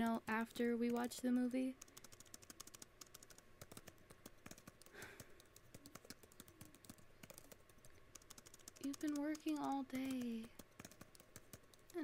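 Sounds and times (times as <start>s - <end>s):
typing on computer keyboard: 0.0s - 12.0s.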